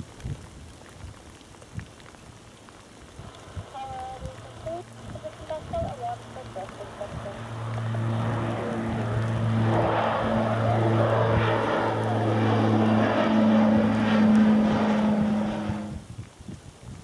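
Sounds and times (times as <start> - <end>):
propeller airplane droning overhead: 3.0 - 16.8.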